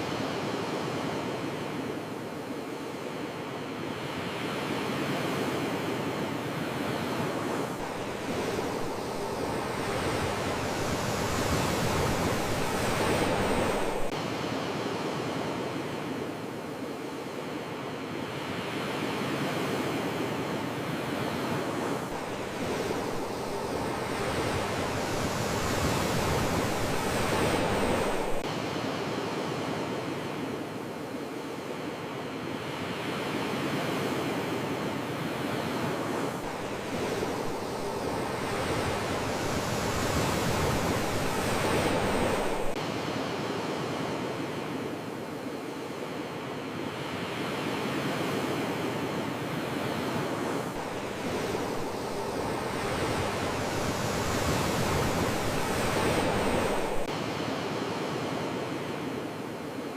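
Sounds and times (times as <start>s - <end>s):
sea waves washing ashore: 0.0s - 59.9s.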